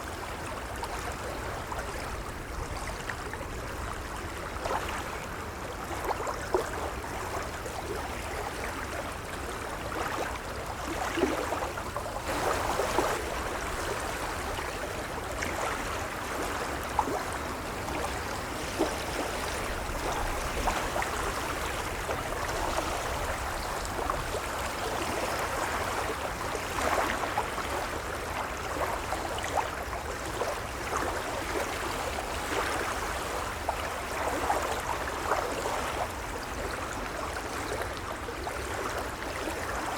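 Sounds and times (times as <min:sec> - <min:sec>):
gentle waves lapping: 0:00.0 - 0:39.9.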